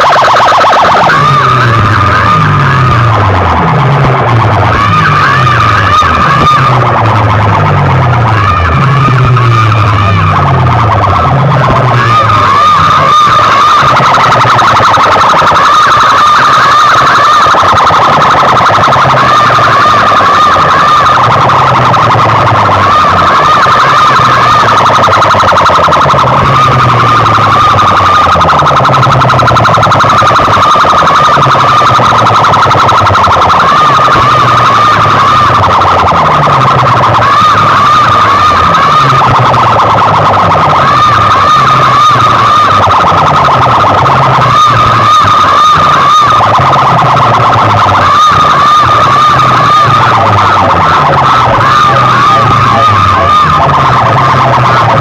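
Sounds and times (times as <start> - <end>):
bass line: 0.0 - 55.0
siren-effect electronic music: 0.0 - 55.0.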